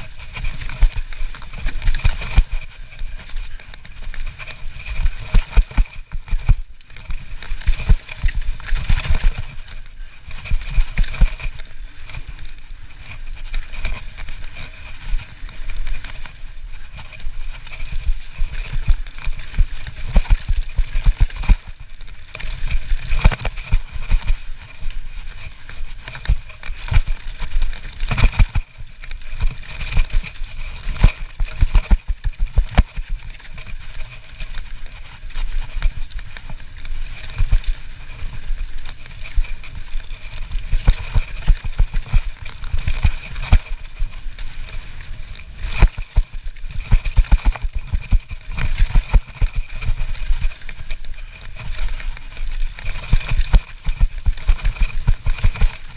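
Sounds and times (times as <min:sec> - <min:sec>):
bike clacking and rattling: 0:00.0 - 0:55.9
bike tyres rumbling over dirt: 0:00.0 - 0:55.9.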